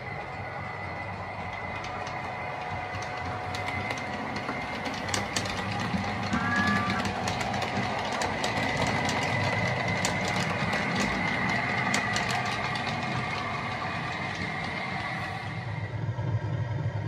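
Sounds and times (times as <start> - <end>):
wheels clicking over rail joints: 0.0 - 15.9
model train motor whine: 0.0 - 16.1.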